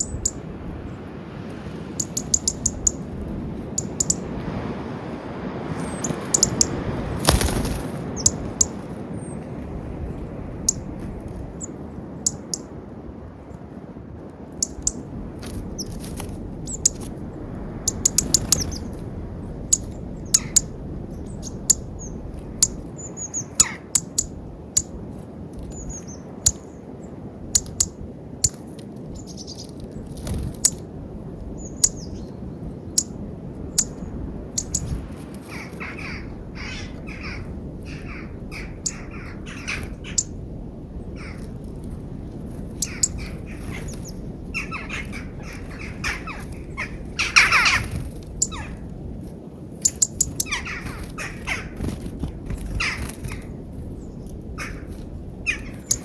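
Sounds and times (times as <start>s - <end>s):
birds calling: 0.0s - 1.2s, 1.9s - 4.6s, 5.6s - 12.8s, 14.5s - 25.0s, 31.4s - 49.0s, 49.8s - 56.0s
steady low rumble: 0.0s - 56.0s.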